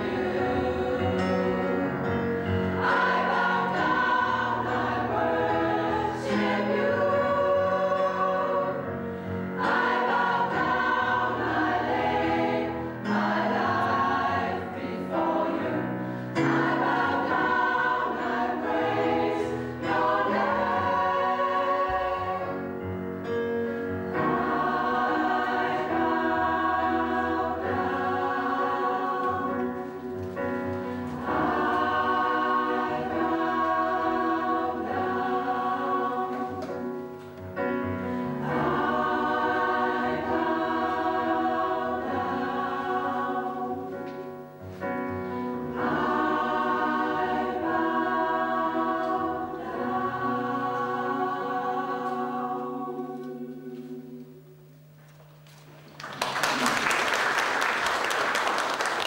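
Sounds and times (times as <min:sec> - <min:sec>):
gospel choir singing: 0:00.0 - 0:54.5.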